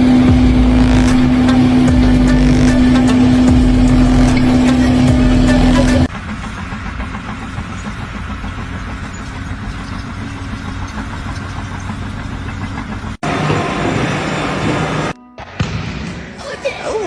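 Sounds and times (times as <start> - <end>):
engine running with low hum: 0.0 - 15.2.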